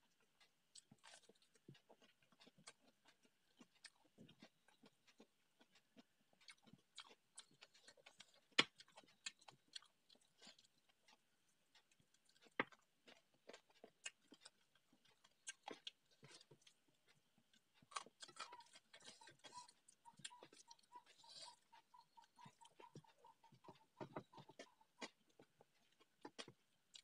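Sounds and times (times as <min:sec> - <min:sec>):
fingers squishing rice: 0:00.0 - 0:27.0
wet chewing and lip-smacking: 0:00.0 - 0:27.0.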